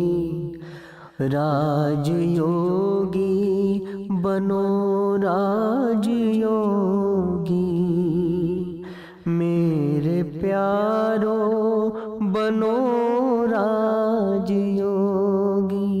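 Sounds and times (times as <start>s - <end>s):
devotional song melody: 0.0s - 16.0s.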